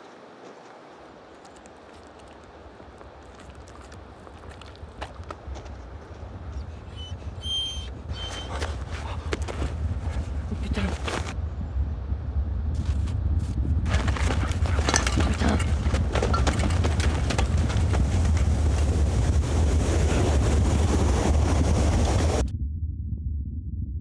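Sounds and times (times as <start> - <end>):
footsteps crunching through snow: 0.0 - 6.4, 8.2 - 11.4, 12.8 - 22.4
branches rustling: 0.0 - 6.9, 8.2 - 11.4, 12.8 - 22.2
low wind rumble: 0.0 - 24.0.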